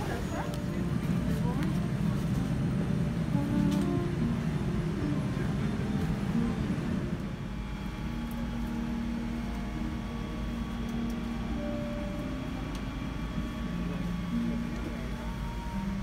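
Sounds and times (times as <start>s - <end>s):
airplane cabin ventilation drone: 0.0s - 16.0s.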